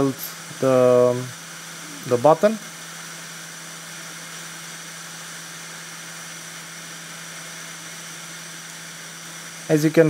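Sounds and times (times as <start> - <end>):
hot air rework station hissing: 0.0 - 10.0.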